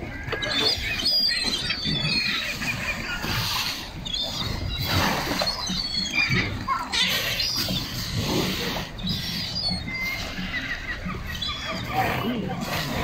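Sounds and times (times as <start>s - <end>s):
gulls and sea lions calling: 0.0s - 13.0s
water rumbling: 0.0s - 13.0s
wind: 0.0s - 13.0s.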